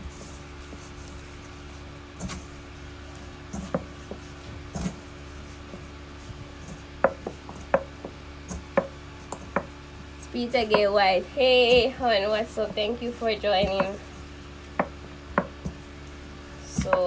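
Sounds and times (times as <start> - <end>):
hands kneading dough: 0.0 - 17.0
steady low hum: 0.0 - 17.0.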